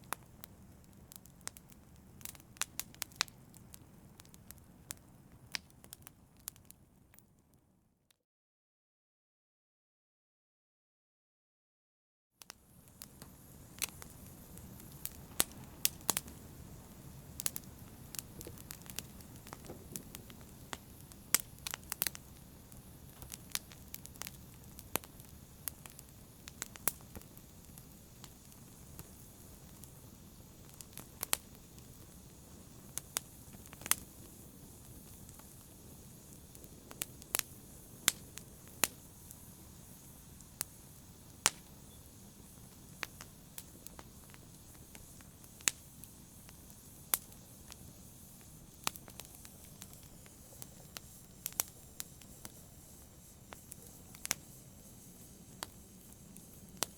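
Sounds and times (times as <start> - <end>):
wood fire crackling and popping: 0.0 - 7.6, 12.4 - 56.9
low rumble of burning: 0.0 - 7.8, 12.5 - 56.9.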